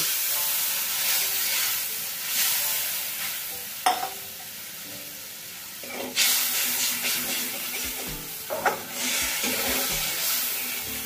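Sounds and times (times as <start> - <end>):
water sizzling in hot oil: 0.0 - 11.0.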